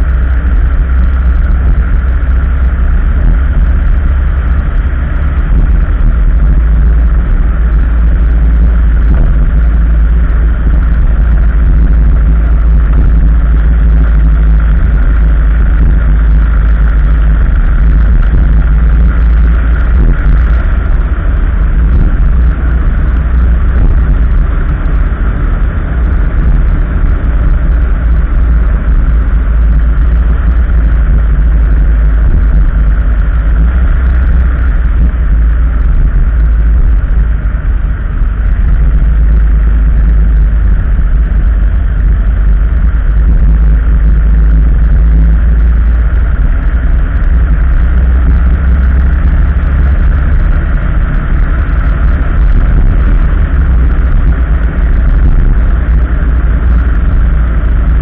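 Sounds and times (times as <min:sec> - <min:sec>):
high steady drone: 0:00.0 - 0:58.0
vehicle road and engine rumble: 0:00.0 - 0:58.0.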